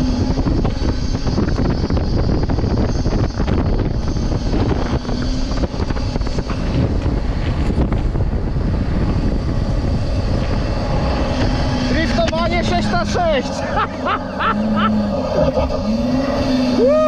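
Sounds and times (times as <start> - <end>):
rush of snow off tyres: 0.0 - 17.0
wind buffeting microphone: 0.0 - 17.0.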